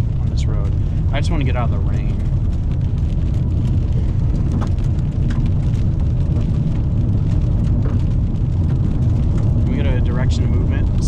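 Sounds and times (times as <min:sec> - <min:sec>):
raindrops ticking on car: 0:00.0 - 0:11.0
road and engine rumble: 0:00.0 - 0:11.0.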